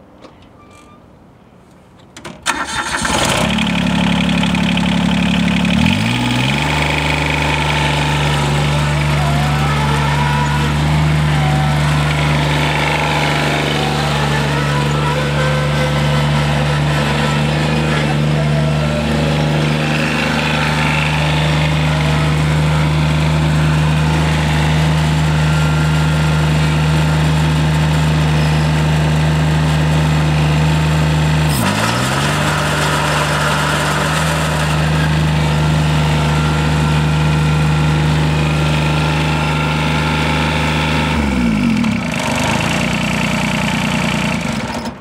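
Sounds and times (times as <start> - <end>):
tractor diesel engine running: 2.4 - 45.0.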